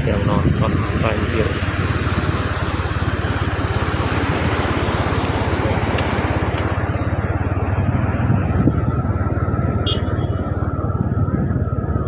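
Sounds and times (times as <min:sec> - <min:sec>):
vehicle engine running: 0:00.0 - 0:12.0
wind on microphone: 0:00.0 - 0:12.0.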